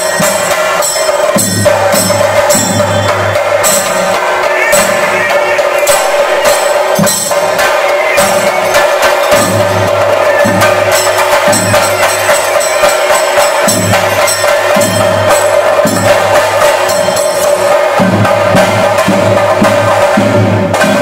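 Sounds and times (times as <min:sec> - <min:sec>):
deeper drum beat: 0:00.0 - 0:21.0
drums beaten rapidly with sticks: 0:00.0 - 0:21.0.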